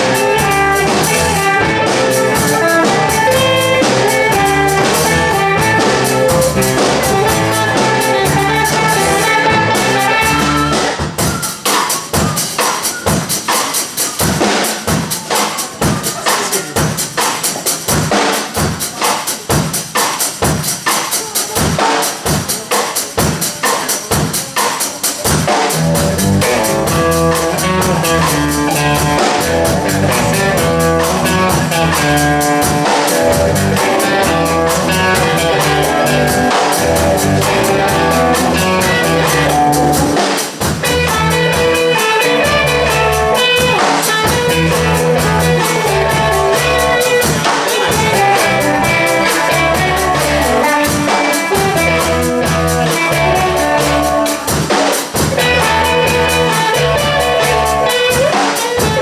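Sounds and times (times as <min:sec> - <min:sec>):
drums steady beat: 0:00.0 - 0:59.0
rock band playing live: 0:00.0 - 0:59.0.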